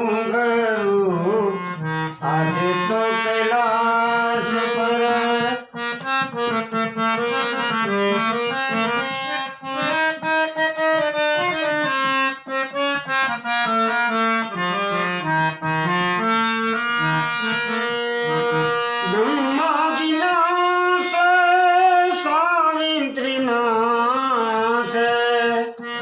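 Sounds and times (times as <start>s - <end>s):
harmonium playing held notes: 0.0s - 26.0s.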